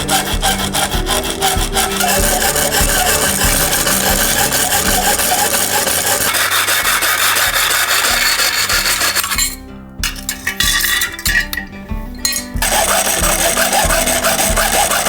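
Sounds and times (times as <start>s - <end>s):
hand tool rasping strokes: 0.0s - 11.6s, 12.2s - 15.0s.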